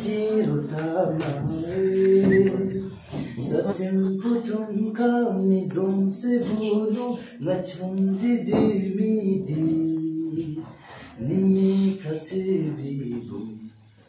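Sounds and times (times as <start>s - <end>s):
person singing slow melody: 0.0s - 14.0s.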